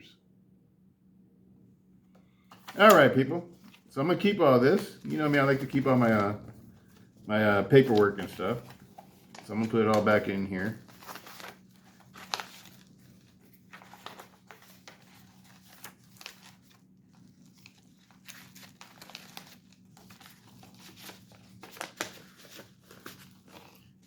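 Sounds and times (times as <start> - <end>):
paper rustling and crinkling: 2.5 - 24.0.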